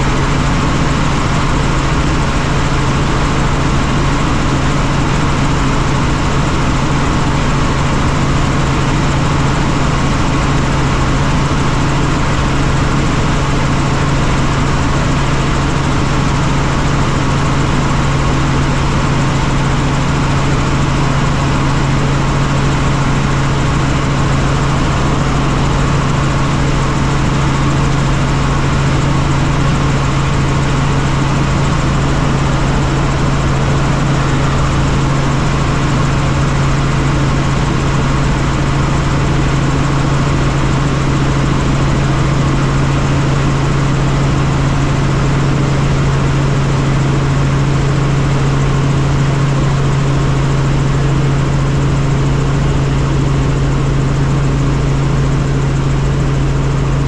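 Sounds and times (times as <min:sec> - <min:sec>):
helicopter rotor and turbine drone: 0:00.0 - 0:57.0.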